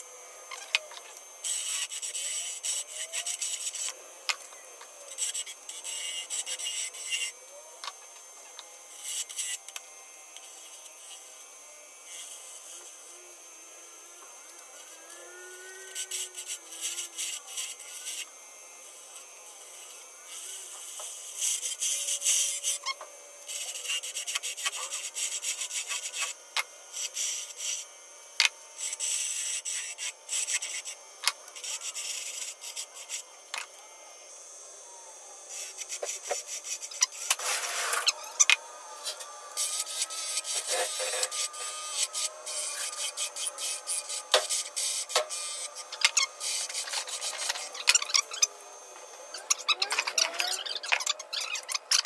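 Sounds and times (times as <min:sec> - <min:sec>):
lathe tool scraping wood: 0:00.0 - 0:09.7, 0:10.3 - 0:33.9, 0:35.5 - 0:52.0.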